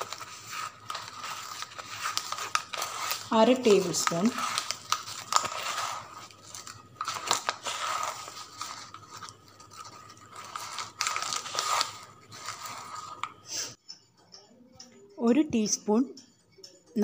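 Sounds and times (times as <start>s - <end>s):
spoon scraping container: 0.0s - 13.8s.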